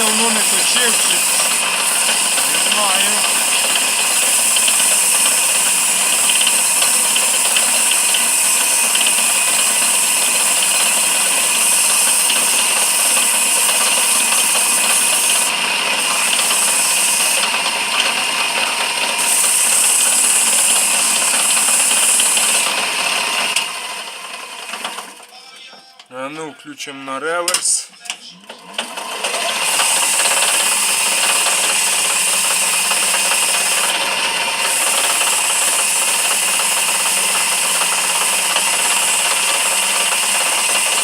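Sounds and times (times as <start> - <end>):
chisel scraping wood on lathe: 0.0 - 25.2, 28.8 - 41.0
lathe motor hum: 0.0 - 25.3, 28.5 - 41.0.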